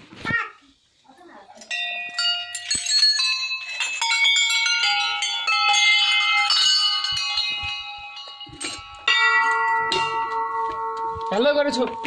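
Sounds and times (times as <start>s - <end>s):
small brass bells ringing: 1.6s - 12.0s.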